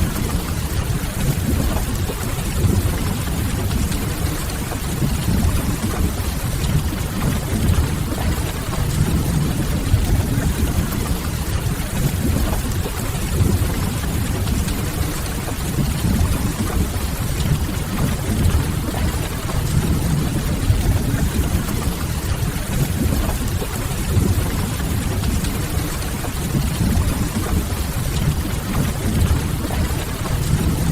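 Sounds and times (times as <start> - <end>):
steady rain: 0.0 - 30.9.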